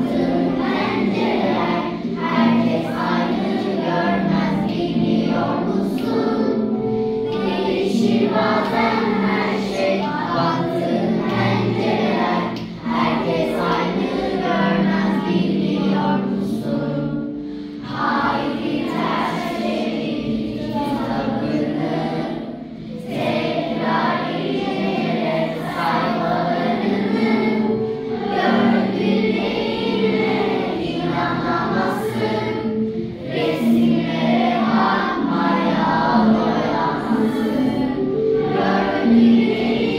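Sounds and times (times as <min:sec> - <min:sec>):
children singing in chorus: 0:00.0 - 0:39.9.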